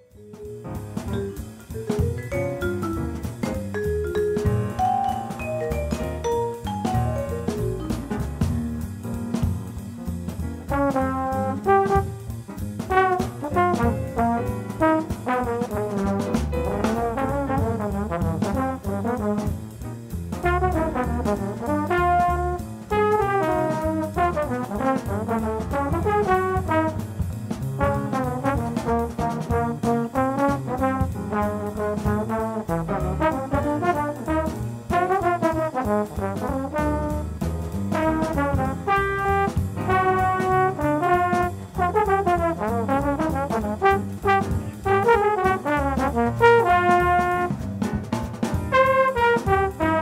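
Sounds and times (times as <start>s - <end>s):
bass: 0.0s - 50.0s
cymbals: 0.1s - 50.0s
trombone jazz solo: 0.4s - 50.0s.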